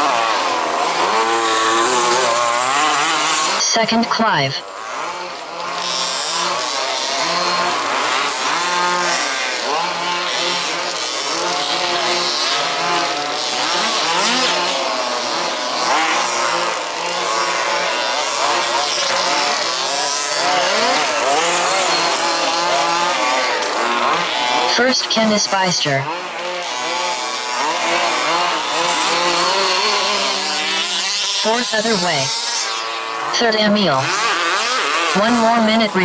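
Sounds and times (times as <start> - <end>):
small engines revving and whining: 0.0 - 36.0.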